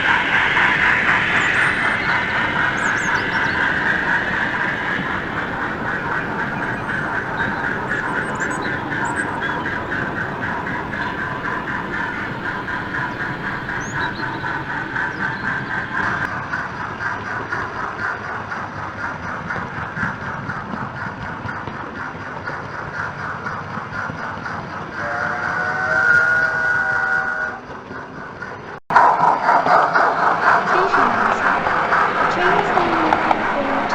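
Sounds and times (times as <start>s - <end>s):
model steam locomotive chuffing: 0.0s - 33.9s.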